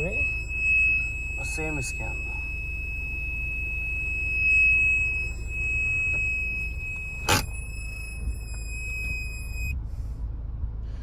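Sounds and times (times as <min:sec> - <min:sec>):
parking sensor warning tone: 0:00.0 - 0:09.8.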